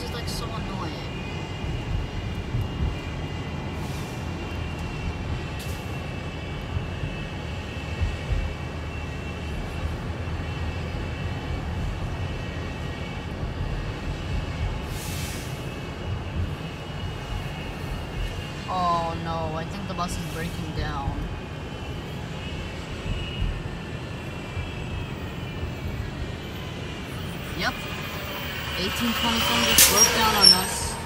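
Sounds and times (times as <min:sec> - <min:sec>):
bus engine whining over rumble: 0:00.0 - 0:31.0.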